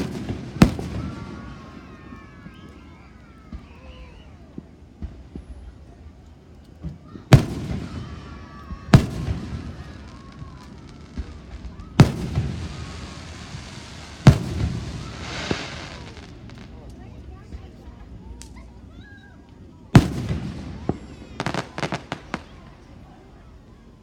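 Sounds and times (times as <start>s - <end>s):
fireworks booming: 0.0s - 18.8s, 19.8s - 23.6s
small firework pops: 0.0s - 18.8s, 19.4s - 23.1s.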